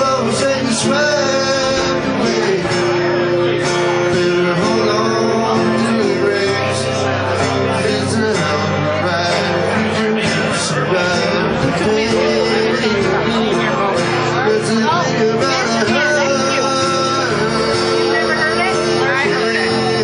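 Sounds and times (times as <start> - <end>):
country band playing: 0.0 - 20.0
guitar: 0.0 - 20.0.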